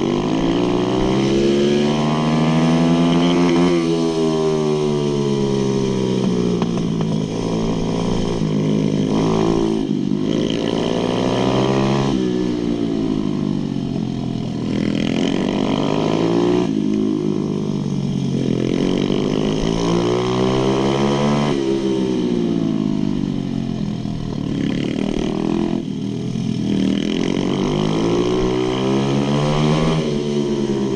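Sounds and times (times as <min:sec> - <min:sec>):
pit bike engine revving: 0:00.0 - 0:30.9.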